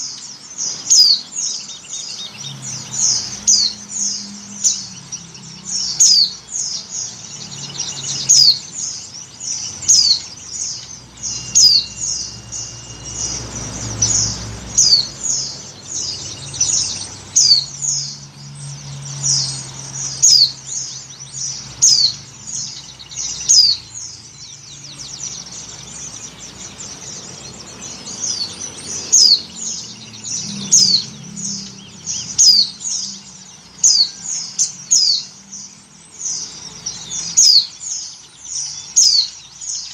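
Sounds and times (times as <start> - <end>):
bird high down-slurred calls: 0.0 - 39.9.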